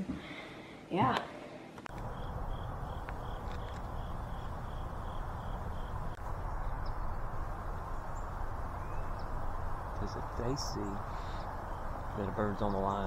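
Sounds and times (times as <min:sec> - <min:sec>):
cricket chirping: 0:01.9 - 0:13.0
steady rushing noise: 0:01.9 - 0:13.0.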